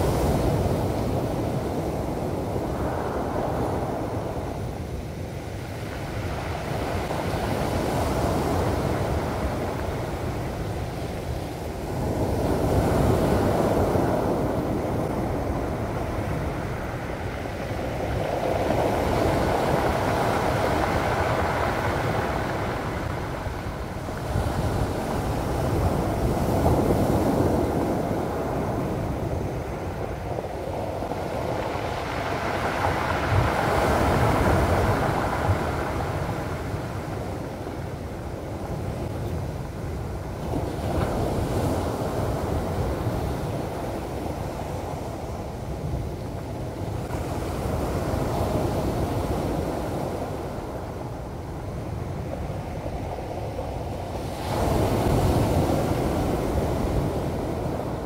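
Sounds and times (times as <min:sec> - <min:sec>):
waves breaking on a pebble beach: 0:00.0 - 0:58.0.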